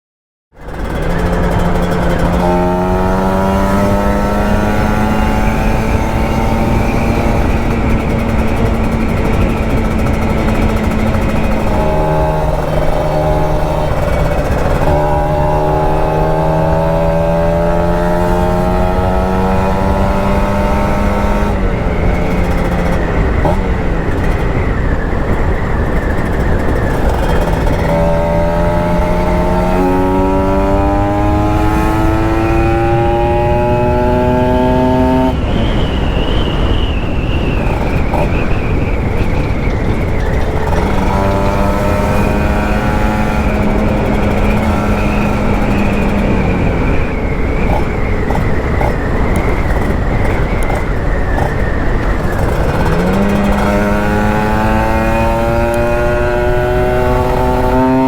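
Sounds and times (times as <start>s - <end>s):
two-stroke motorcycle engine: 0.5s - 58.0s
wind rush: 0.7s - 58.0s.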